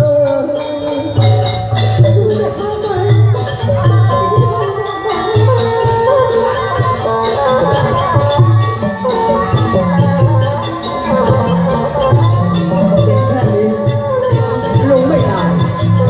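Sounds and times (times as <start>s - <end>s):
instrumental melody: 0.0s - 16.0s.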